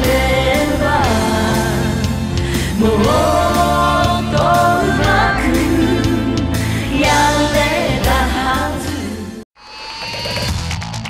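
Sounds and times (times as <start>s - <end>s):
pop song with female vocals: 0.0s - 9.4s.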